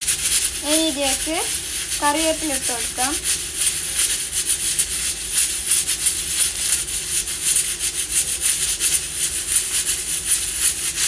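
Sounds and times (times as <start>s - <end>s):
onions sizzling in a pan: 0.0s - 11.0s
wooden spatula scraping a pan: 0.0s - 11.0s.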